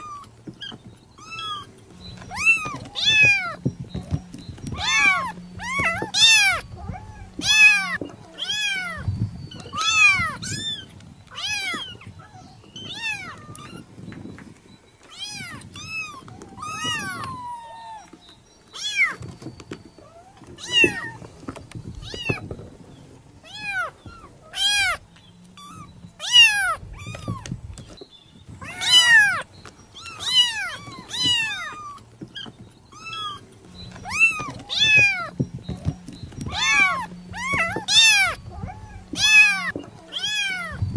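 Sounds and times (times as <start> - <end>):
kittens mewing: 0.0 - 14.0, 15.1 - 18.2, 20.1 - 21.3, 23.4 - 27.6, 28.6 - 40.9.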